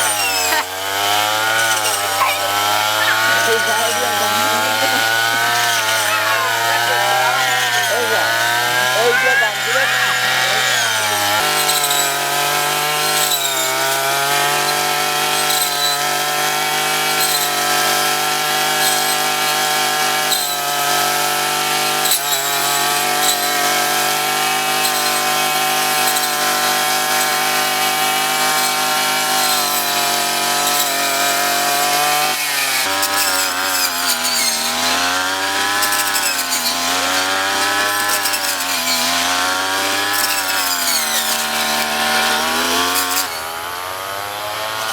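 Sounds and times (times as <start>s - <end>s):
small petrol engine running: 0.0s - 44.9s.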